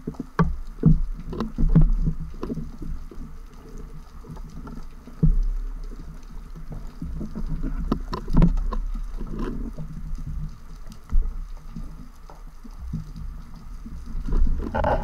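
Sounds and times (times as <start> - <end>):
low rumble of water: 0.0 - 15.0
underwater clicks and knocks: 0.0 - 15.0.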